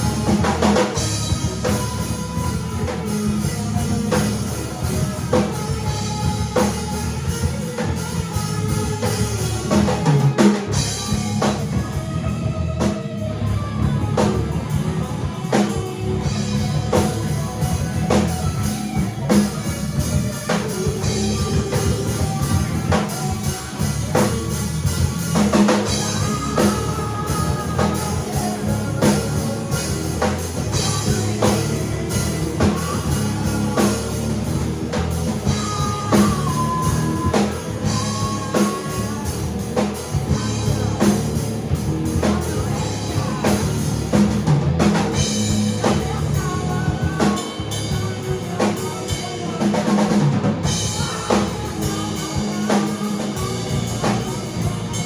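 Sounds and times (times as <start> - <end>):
drum kit beat: 0.0 - 55.0
electric guitar: 0.0 - 55.0
rock band playing live: 0.0 - 55.0.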